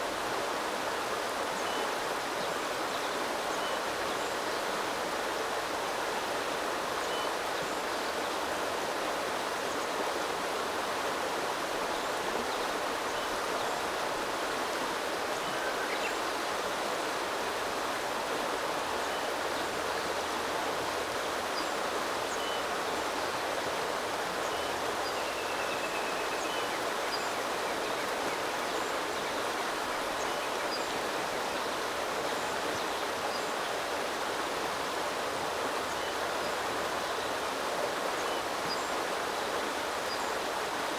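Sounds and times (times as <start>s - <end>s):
small river flowing: 0.0s - 40.9s.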